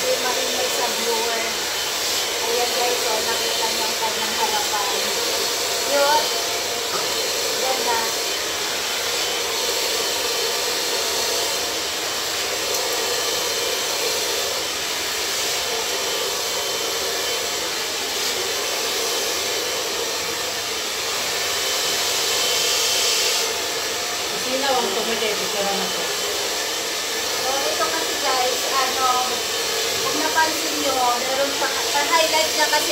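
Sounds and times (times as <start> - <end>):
hair dryer running: 0.0 - 32.9.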